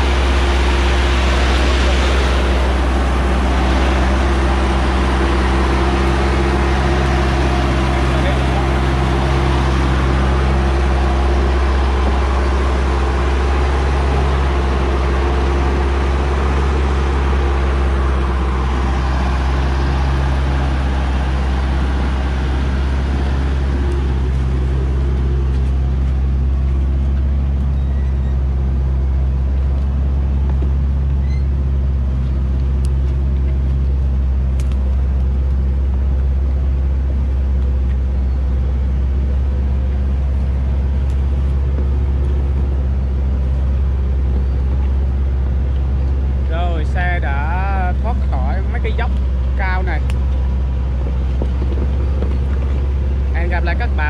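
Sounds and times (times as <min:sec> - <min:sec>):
diesel truck engine running low: 0:00.0 - 0:54.0.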